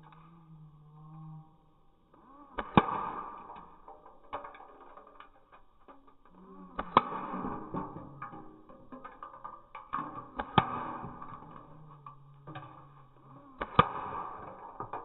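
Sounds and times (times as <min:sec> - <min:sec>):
pellets hitting cans: 0:02.6 - 0:15.0.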